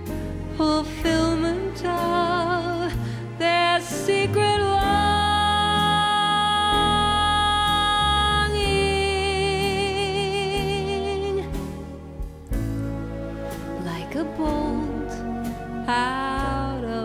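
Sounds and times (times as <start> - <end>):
soft accompaniment: 0.0 - 17.0.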